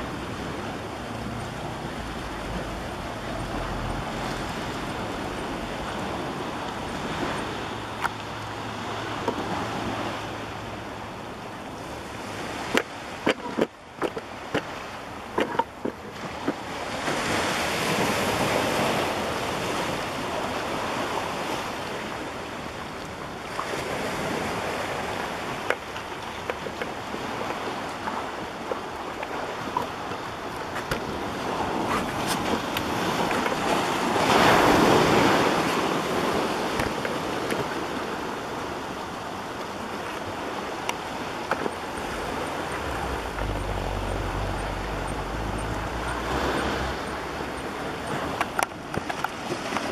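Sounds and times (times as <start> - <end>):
ocean surf washing on rocks: 0.0 - 49.9.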